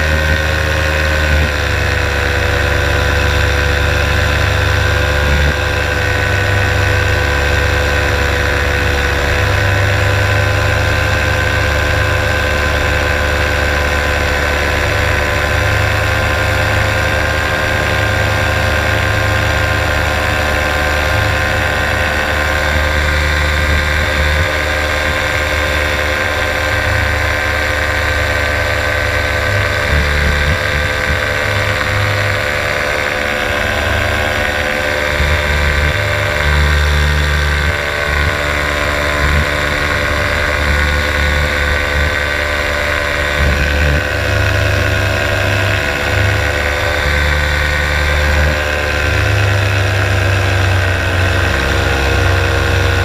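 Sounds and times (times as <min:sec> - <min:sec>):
paramotor engine and propeller: 0:00.0 - 0:53.0.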